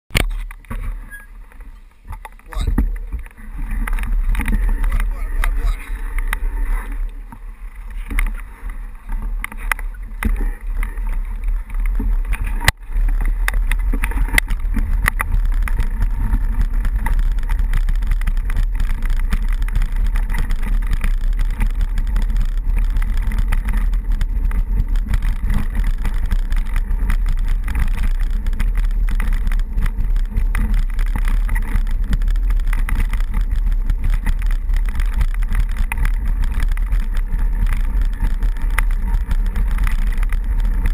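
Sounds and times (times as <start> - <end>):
bike clicks and knocks: 0.1 - 40.9
mountain bike rattling on dirt road: 0.1 - 40.9
wind rumble on microphone: 0.1 - 40.9.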